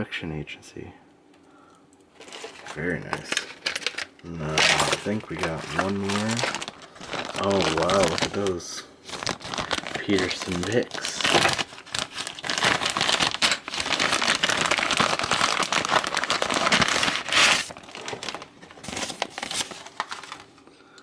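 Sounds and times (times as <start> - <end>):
packaging crinkling and rustling: 2.1 - 20.7.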